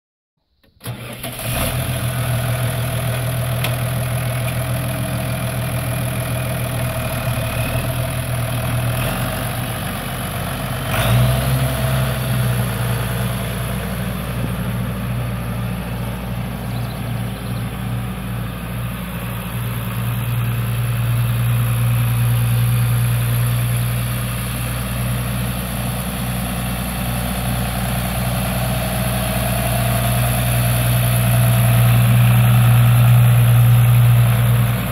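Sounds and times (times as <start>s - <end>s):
diesel tractor engine idling: 0.8s - 34.9s.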